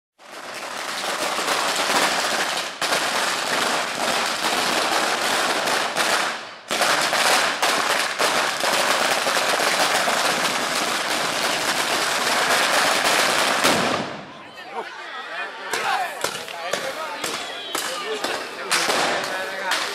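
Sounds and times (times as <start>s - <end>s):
firecrackers cracking: 0.2s - 14.4s, 15.7s - 19.9s.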